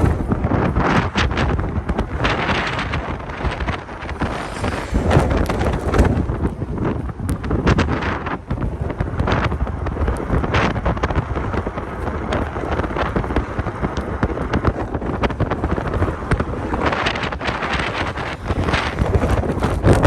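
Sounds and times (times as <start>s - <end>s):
blizzard wind buffeting microphone: 0.0s - 20.0s.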